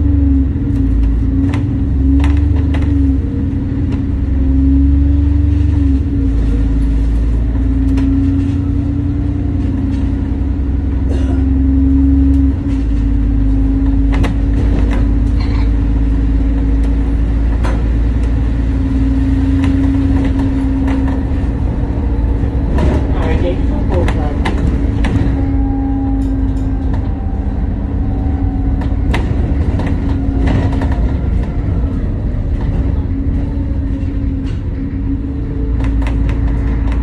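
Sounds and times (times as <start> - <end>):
bus body rattling: 0.0 - 37.0
bus engine and road rumble: 0.0 - 37.0
constant hum: 0.0 - 37.0.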